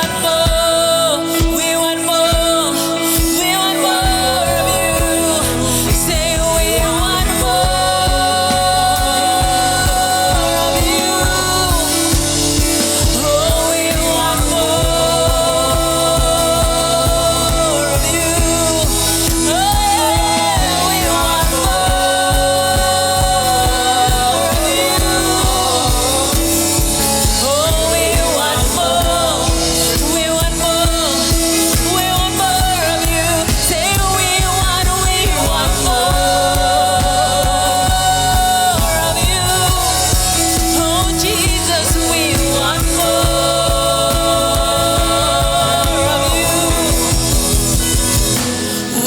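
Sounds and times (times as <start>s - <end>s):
worship song singing: 0.0s - 49.0s.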